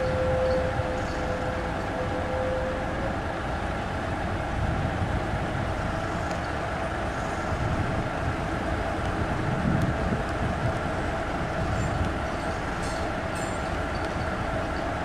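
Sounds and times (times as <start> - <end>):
steam locomotive noise: 0.0 - 15.0.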